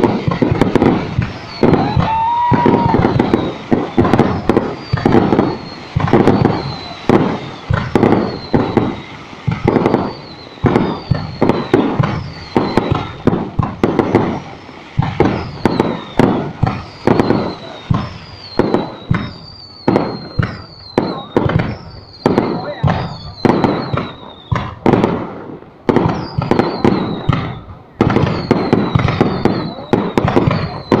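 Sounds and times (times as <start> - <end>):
falling firework whistles: 0.0 - 31.0
fireworks bursting with crackle: 0.0 - 31.0.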